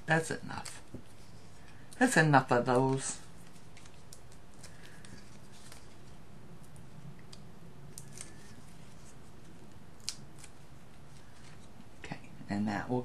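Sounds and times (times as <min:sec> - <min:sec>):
low steady hum: 0:00.0 - 0:13.0
paper crinkling and ticking: 0:00.2 - 0:11.8.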